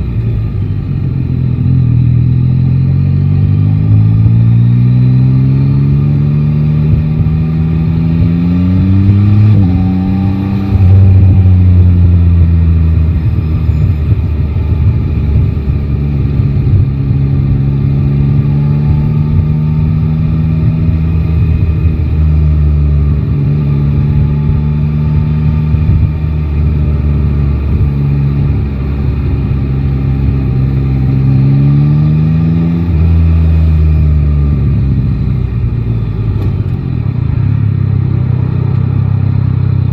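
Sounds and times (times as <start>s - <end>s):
wind and road noise: 0.0s - 39.9s
motorcycle engine revving: 1.0s - 39.9s.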